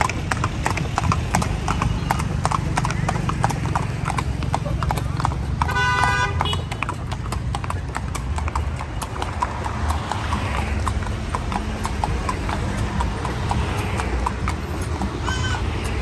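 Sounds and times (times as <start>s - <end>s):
horse hooves clip-clopping on street: 0.0s - 16.0s.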